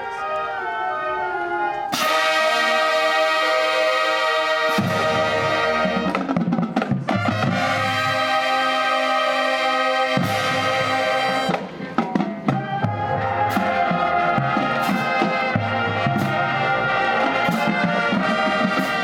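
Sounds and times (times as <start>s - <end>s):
brass section: 0.0s - 19.0s
marching band playing: 0.0s - 19.0s
drums: 1.9s - 19.0s.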